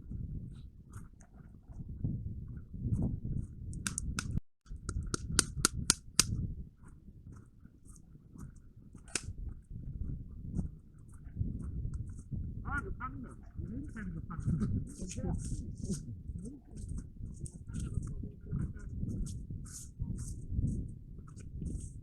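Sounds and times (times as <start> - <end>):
low rumble of movement: 0.0 - 22.0.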